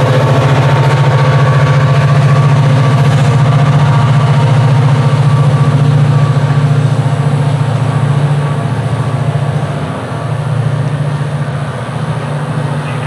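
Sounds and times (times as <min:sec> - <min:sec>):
diesel locomotive humming: 0:00.0 - 0:13.0.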